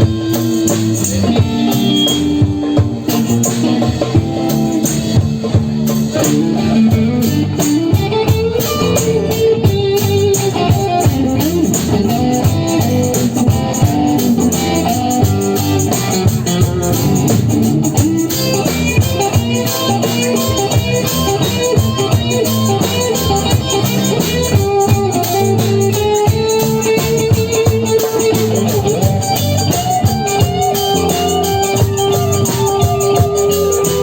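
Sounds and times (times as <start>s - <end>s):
electric guitar lead lines: 0.0s - 34.0s
steady drum beat: 0.0s - 34.0s.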